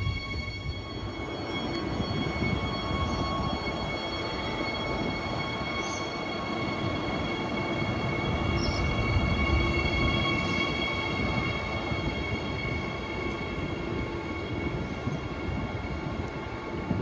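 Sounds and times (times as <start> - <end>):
electric train whine: 0.0 - 17.0
train wheels rumbling on track: 0.0 - 17.0.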